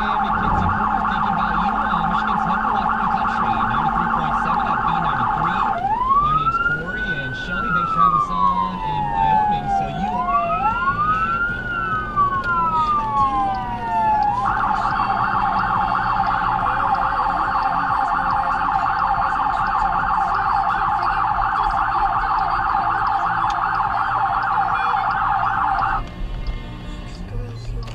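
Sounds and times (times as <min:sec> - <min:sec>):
electronic siren wailing: 0:00.0 - 0:26.0
second siren wail: 0:00.0 - 0:26.0.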